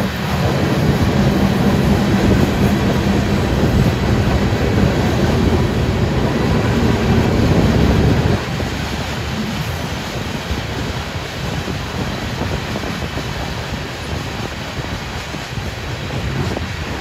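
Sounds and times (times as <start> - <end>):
steel train wheels rolling: 0.0 - 17.0.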